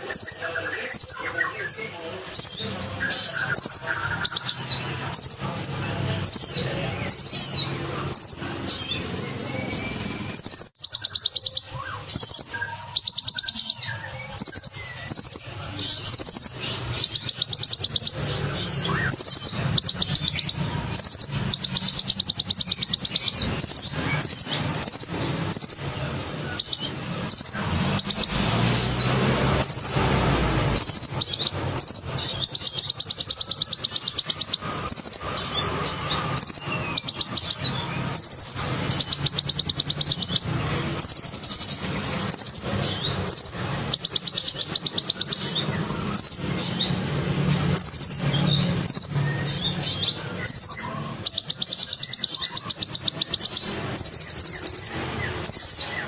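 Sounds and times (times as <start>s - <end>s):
sunbird singing rolling trills: 0.0s - 56.0s.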